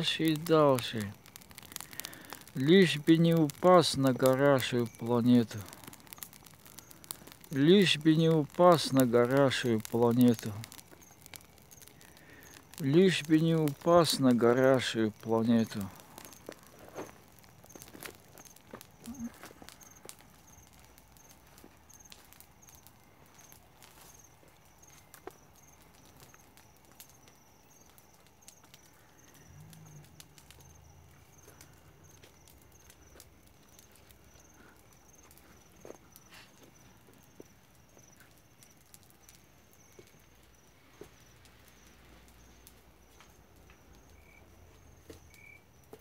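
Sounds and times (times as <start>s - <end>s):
campfire crackling: 0.0s - 46.0s
cricket trilling: 0.0s - 46.0s.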